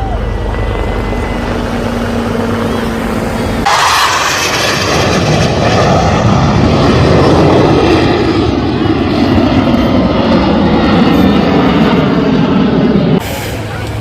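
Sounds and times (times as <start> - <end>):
military jet flying past: 0.0 - 14.0.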